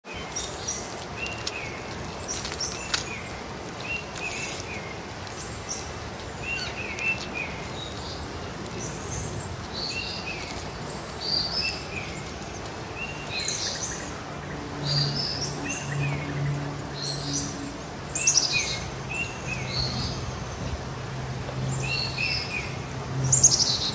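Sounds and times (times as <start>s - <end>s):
outdoor background noise: 0.0s - 23.9s
birds chirping: 0.1s - 23.9s.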